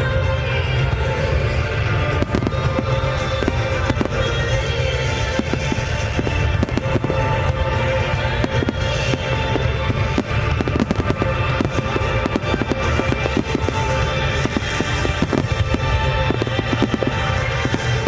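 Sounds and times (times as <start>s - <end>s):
music with sustained tones: 0.0s - 18.0s
fireworks bursting: 0.7s - 18.0s.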